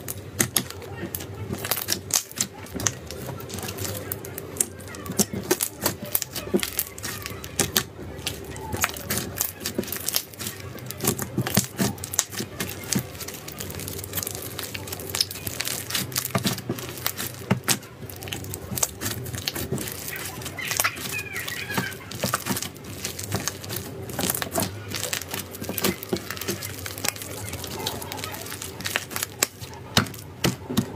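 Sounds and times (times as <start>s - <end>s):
slime crackling and popping: 0.0s - 30.9s.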